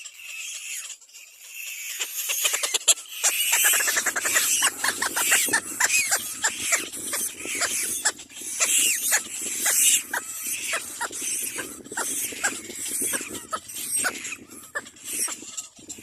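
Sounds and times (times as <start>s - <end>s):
bird chicks calling: 0.0s - 16.0s.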